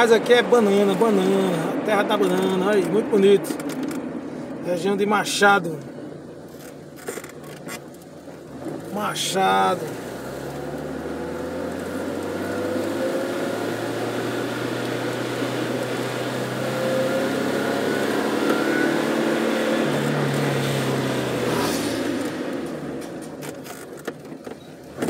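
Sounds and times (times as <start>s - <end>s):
car engine running: 0.0s - 25.0s
tyre and road noise: 0.0s - 25.0s.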